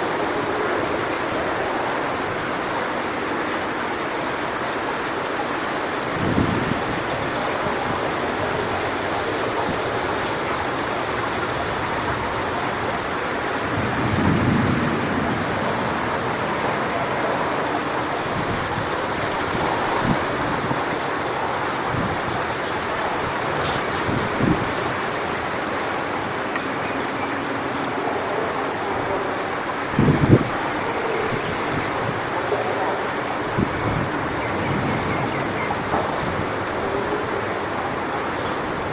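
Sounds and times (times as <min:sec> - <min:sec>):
strong wind through palm fronds: 0:00.0 - 0:38.9.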